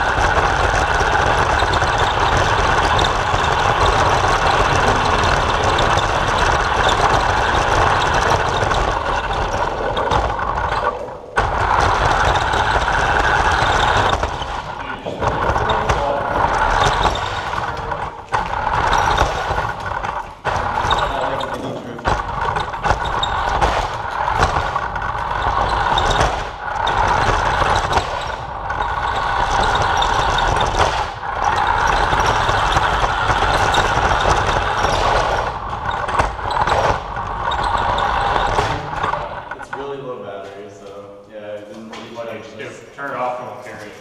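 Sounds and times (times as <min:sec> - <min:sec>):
toy car motor whining: 0:00.0 - 0:39.6
tyre rumble on concrete: 0:00.0 - 0:39.6.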